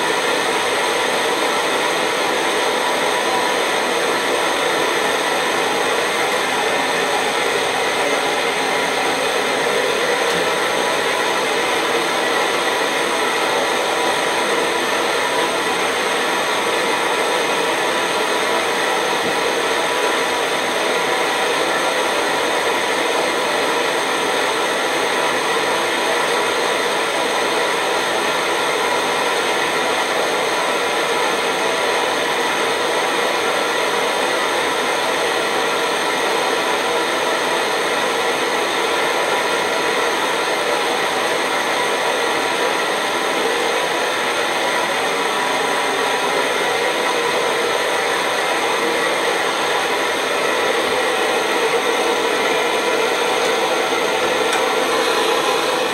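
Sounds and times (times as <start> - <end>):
stove burner roaring: 0.0 - 55.9.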